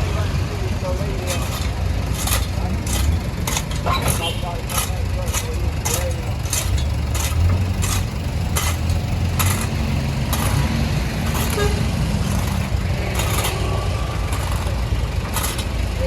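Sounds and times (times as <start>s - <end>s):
backhoe diesel engine under load: 0.0s - 16.0s
sharp clinks of breaking road: 1.2s - 16.0s.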